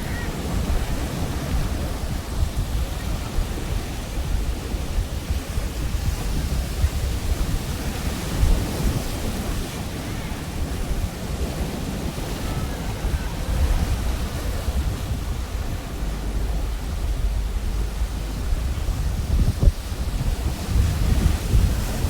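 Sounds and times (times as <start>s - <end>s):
ocean waves breaking: 0.0s - 22.0s
wind on microphone: 0.0s - 22.0s.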